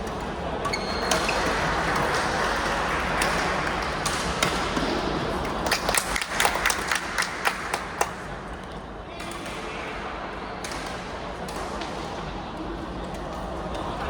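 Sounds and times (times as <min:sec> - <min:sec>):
hum of people talking: 0:00.0 - 0:14.0.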